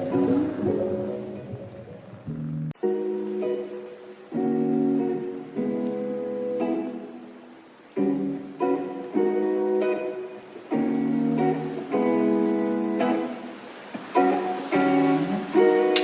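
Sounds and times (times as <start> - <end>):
strummed guitar chords: 0.0 - 16.0.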